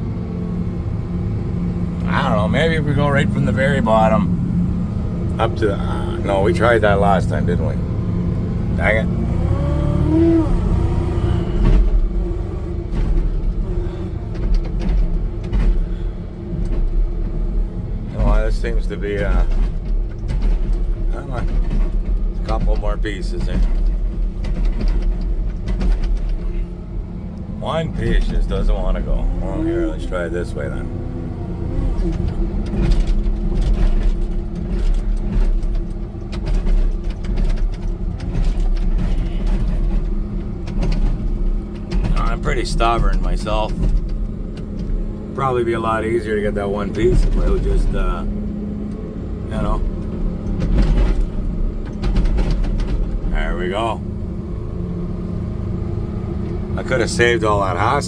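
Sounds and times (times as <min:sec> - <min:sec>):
wheel loader diesel engine: 0:00.0 - 0:58.0.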